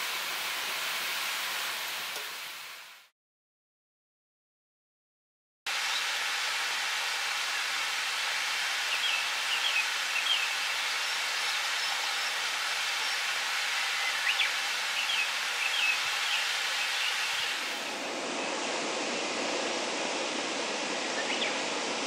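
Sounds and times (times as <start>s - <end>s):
steady outdoor hiss: 0.0s - 3.1s, 5.7s - 22.0s.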